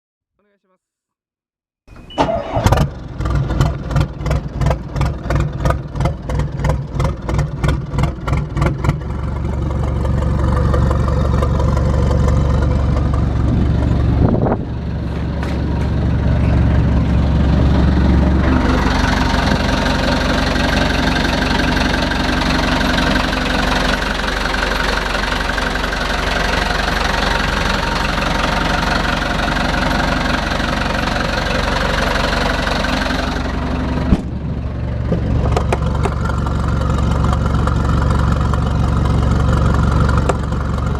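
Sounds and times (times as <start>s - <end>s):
boat engine starting and running: 1.9s - 40.9s.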